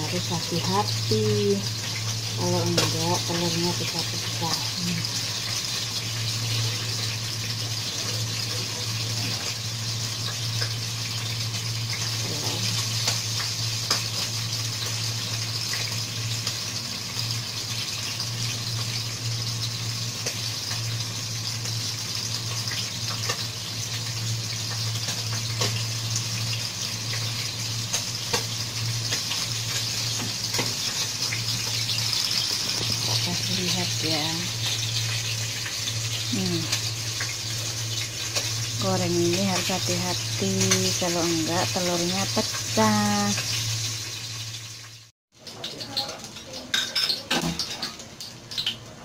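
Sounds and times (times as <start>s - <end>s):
hot oil sizzling: 0.0s - 49.0s.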